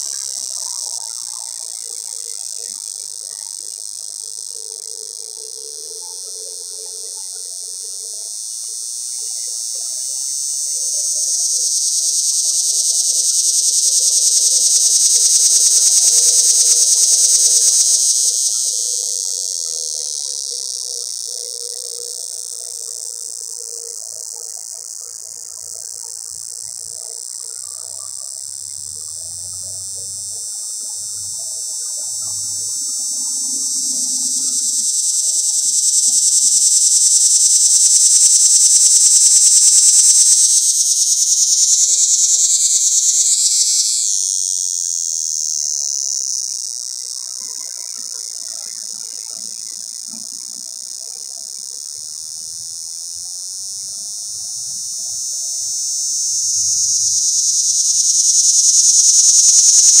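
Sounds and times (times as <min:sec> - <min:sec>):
cicada buzzing: 0:00.0 - 1:00.0.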